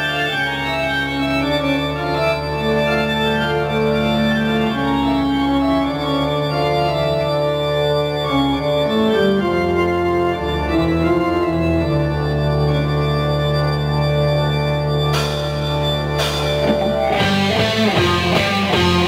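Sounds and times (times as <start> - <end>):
organ chords: 0.0 - 19.0
steady bass: 0.0 - 19.0.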